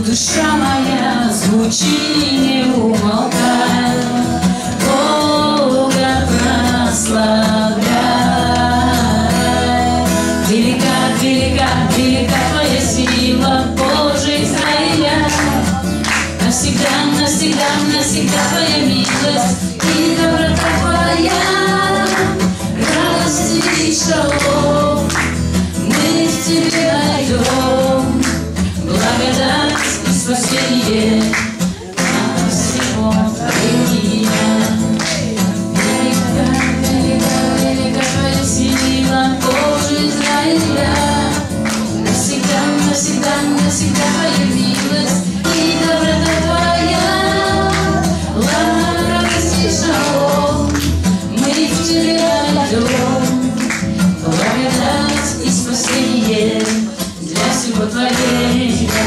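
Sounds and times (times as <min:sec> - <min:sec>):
strummed acoustic guitar: 0:00.0 - 0:59.0
woman singing: 0:00.0 - 0:59.0.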